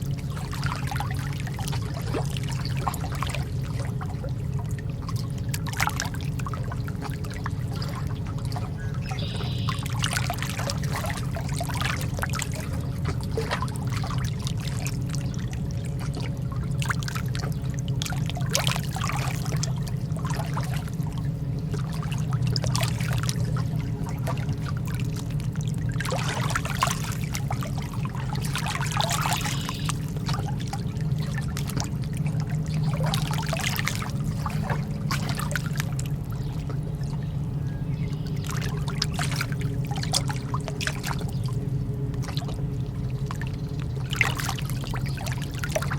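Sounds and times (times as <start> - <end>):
lake water lapping: 0.0 - 45.9
low rumble: 0.0 - 45.9.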